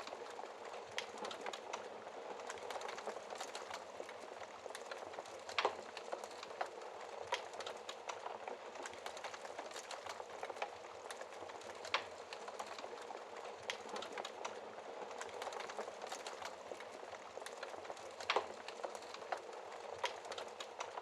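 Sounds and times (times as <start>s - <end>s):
logs crackling and popping: 0.0s - 21.0s.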